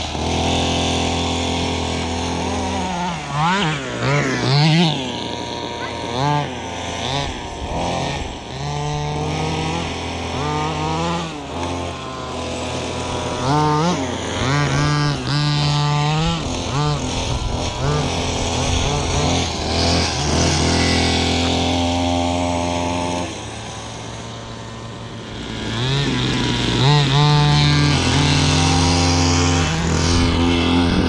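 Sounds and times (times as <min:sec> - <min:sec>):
radio-controlled car motors revving: 0:00.0 - 0:31.0.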